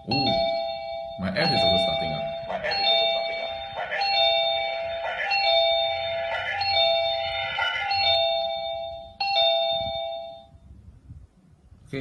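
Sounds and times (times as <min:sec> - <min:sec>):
electronic ding-dong doorbell: 0:00.0 - 0:10.5.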